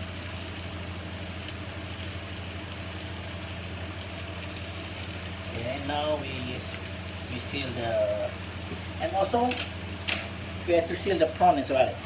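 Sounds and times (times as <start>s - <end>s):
low mechanical hum: 0.0s - 12.0s
sausage sizzling in a pan: 0.0s - 12.0s.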